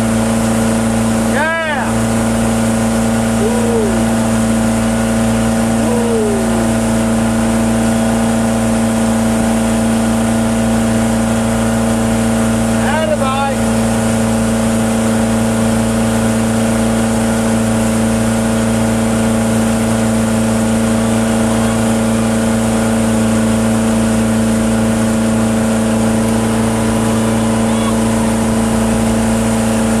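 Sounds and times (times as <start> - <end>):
motorboat engine drone: 0.0 - 30.0
water rushing in boat wake: 0.0 - 30.0.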